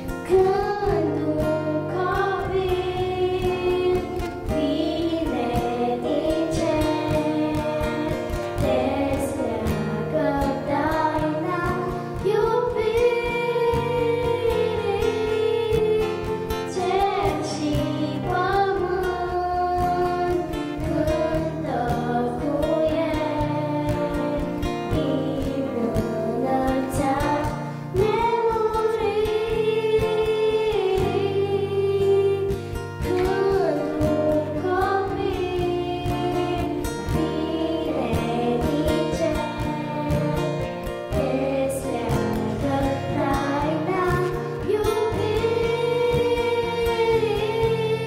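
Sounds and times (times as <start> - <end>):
girls singing into microphones: 0.0 - 48.0
instrumental accompaniment: 0.0 - 48.0.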